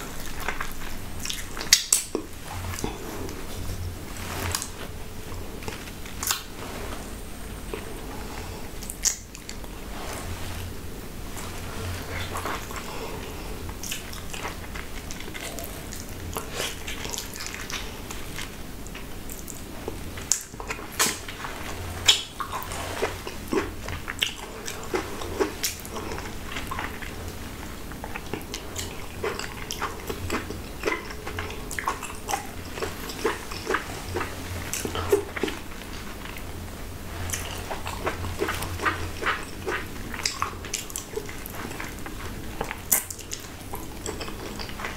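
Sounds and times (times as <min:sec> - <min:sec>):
wet biting and chewing fruit: 0:00.0 - 0:10.8, 0:11.4 - 0:36.5, 0:37.2 - 0:44.9.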